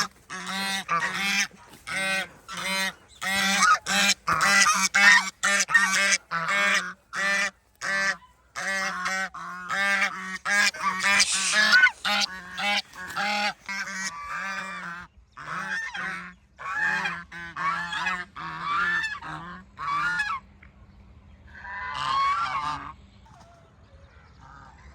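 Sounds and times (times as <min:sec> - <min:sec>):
goose honking: 0:00.0 - 0:20.4, 0:21.7 - 0:22.9.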